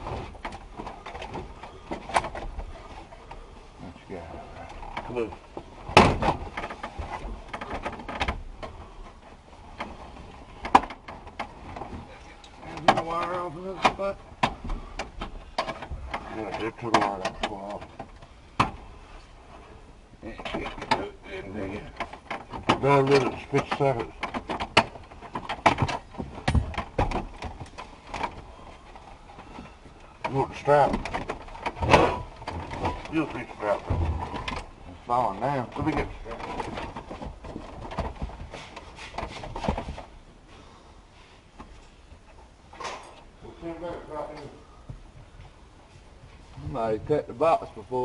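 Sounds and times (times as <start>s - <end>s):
clicks and rattles of hand work: 0.0s - 3.5s, 4.1s - 40.2s.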